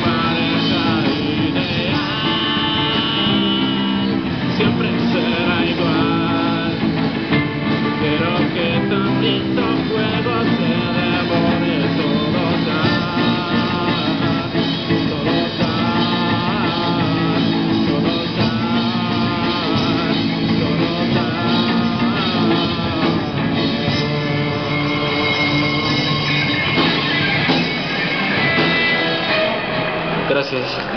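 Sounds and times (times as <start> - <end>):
person singing: 0.0 - 29.6
bass guitar: 0.0 - 30.9
drum kit: 0.0 - 30.9
electric guitars: 0.0 - 30.9.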